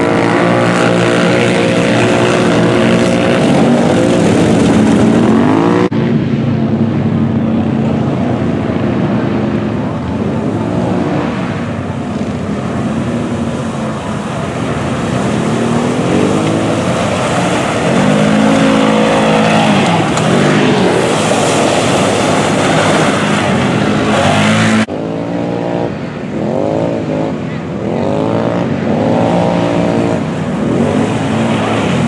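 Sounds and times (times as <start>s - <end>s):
utility vehicle engines revving: 0.0s - 32.0s.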